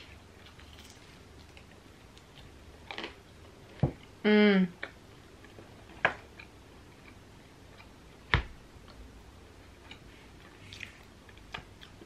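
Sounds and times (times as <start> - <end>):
person chewing bread: 0.0 - 4.2, 4.8 - 12.0.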